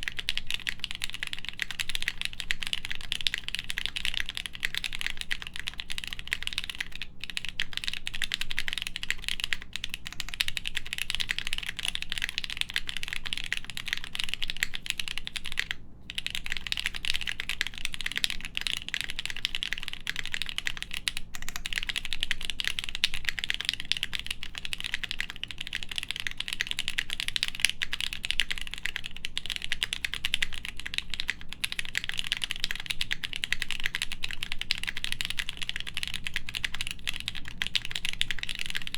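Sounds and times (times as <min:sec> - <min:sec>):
typing on mechanical keyboard: 0:00.0 - 0:38.9.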